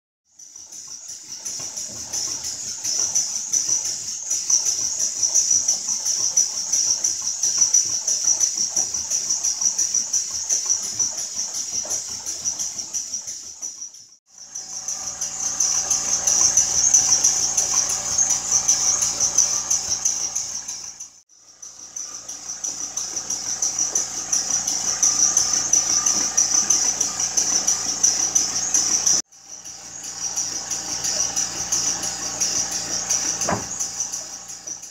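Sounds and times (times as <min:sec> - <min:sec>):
small steam engine running: 0:00.3 - 0:34.9.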